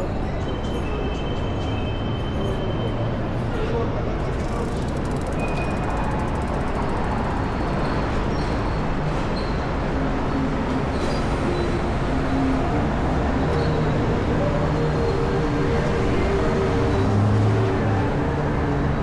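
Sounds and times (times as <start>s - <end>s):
passing vehicles rumbling: 2.9s - 19.0s.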